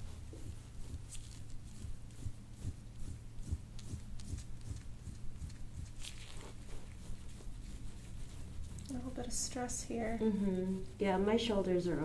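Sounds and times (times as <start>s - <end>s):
soft low massage thumps: 0.0s - 12.0s
steady low hum: 0.0s - 12.0s.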